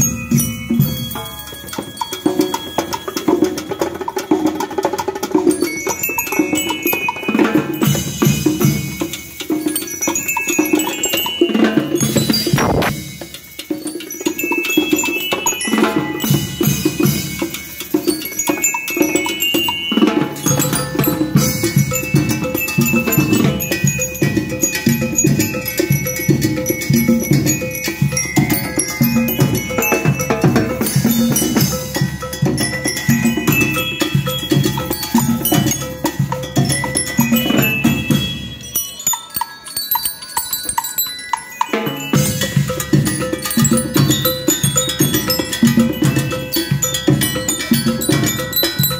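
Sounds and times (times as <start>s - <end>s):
bell-like lyre melody: 0.0s - 4.2s, 5.5s - 48.9s
steady drum beat: 0.0s - 38.6s, 41.6s - 48.9s.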